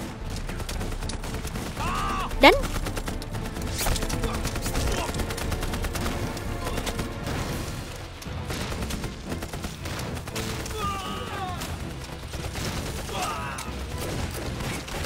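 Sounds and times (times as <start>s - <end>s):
machine-gun fire: 0.0s - 13.4s
gunshots: 0.0s - 15.0s.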